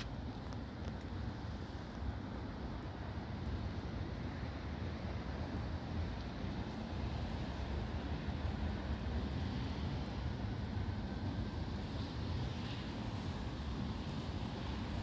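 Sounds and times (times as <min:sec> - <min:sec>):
city ambience rumble: 0:00.0 - 0:15.0.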